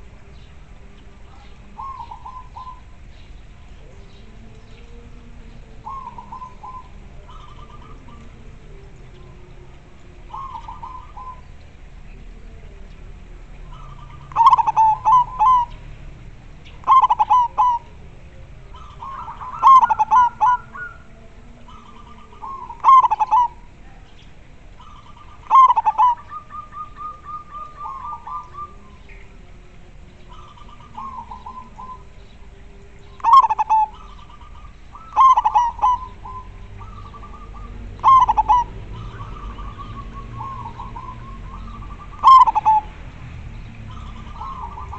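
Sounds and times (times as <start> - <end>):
dove cooing: 0.0 - 44.9
faint dove cooing: 0.0 - 44.9.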